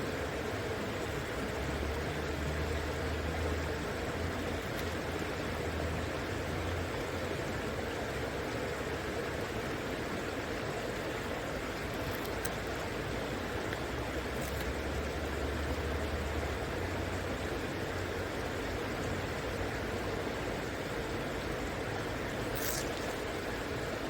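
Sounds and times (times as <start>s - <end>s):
river water rushing: 0.1s - 24.0s.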